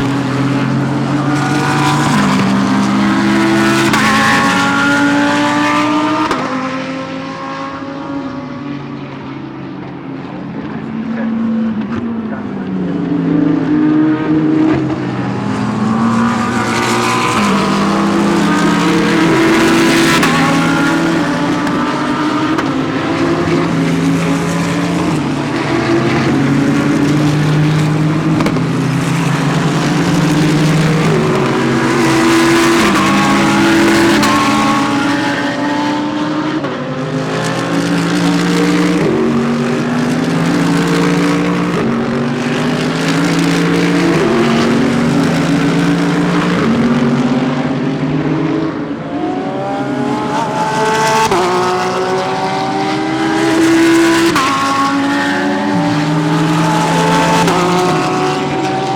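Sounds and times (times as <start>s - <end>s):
race cars passing at speed: 0.0s - 58.9s.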